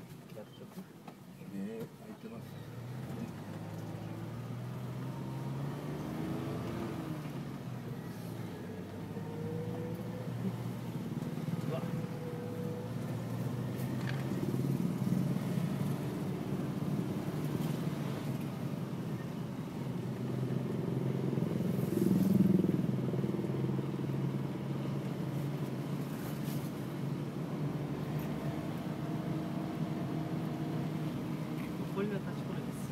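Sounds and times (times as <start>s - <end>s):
vehicle engine running: 2.2s - 32.9s.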